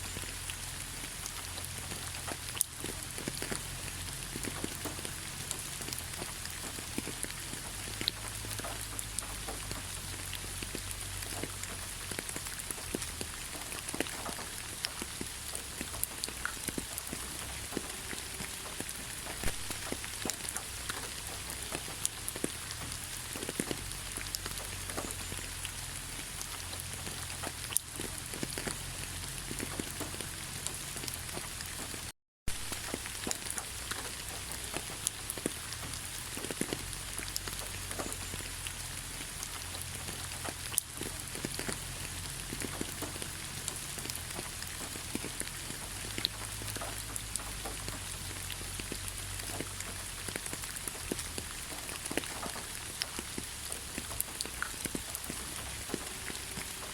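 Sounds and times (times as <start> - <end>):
raindrops ticking on a surface: 0.0 - 56.9
steady rain falling: 0.0 - 56.9.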